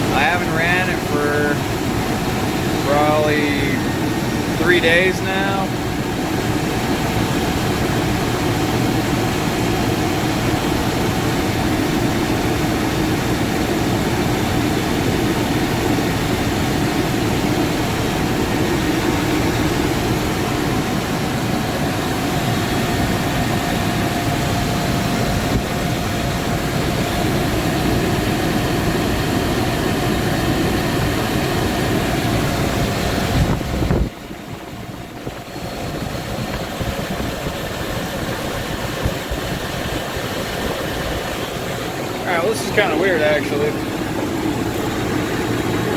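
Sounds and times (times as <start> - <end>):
engine idling: 0.0 - 45.9.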